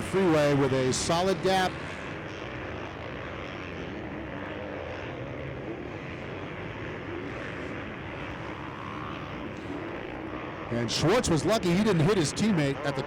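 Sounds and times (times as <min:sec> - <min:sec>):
motocross bike engines racing: 0:00.0 - 0:13.0.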